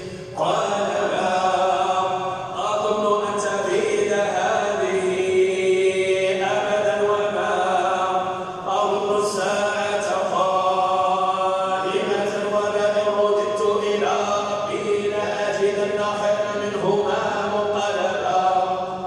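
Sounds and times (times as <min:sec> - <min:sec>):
person chanting recitation: 0:00.0 - 0:19.0.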